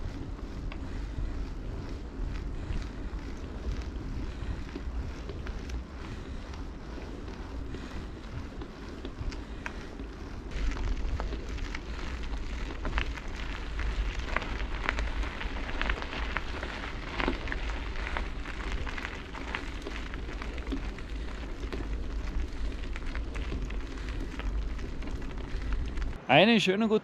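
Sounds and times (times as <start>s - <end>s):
crackling and clicking: 0.0s - 26.2s
wind buffeting microphone: 0.0s - 26.2s.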